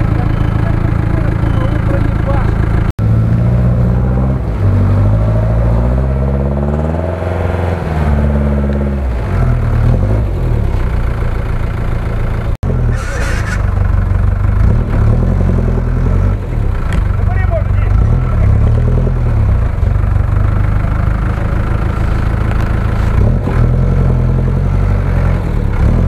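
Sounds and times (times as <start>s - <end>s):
engine revving under load: 0.0s - 11.2s, 12.6s - 26.0s.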